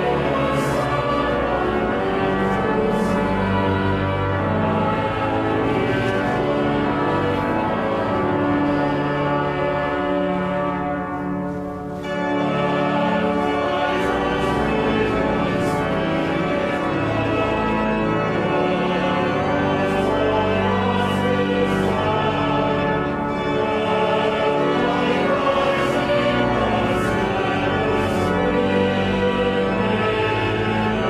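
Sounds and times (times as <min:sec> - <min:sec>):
pipe organ playing hymn chords: 0:00.0 - 0:31.0.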